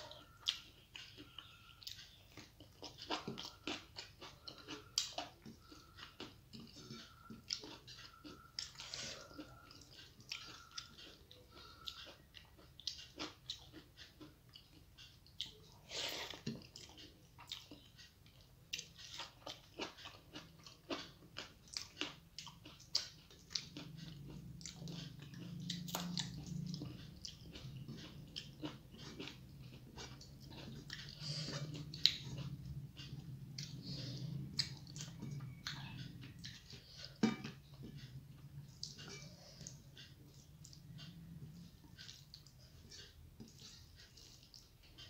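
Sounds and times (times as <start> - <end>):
close-up chewing with mouth clicks: 0.0 - 45.0
fingers mixing food on a plate: 0.1 - 45.0.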